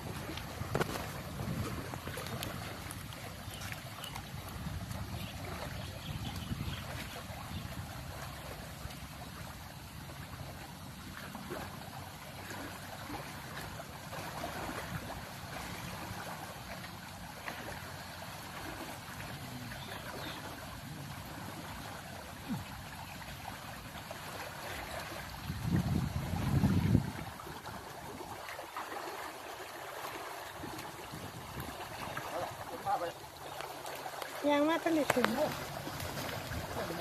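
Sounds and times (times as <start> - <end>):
floodwater running through creek: 0.0 - 37.0.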